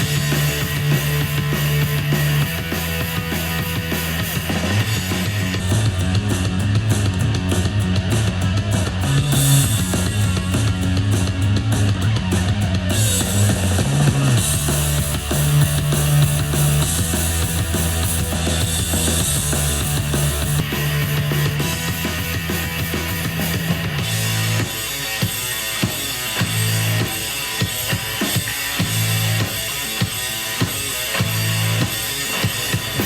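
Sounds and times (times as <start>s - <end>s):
rock music through a speaker: 0.0s - 33.0s.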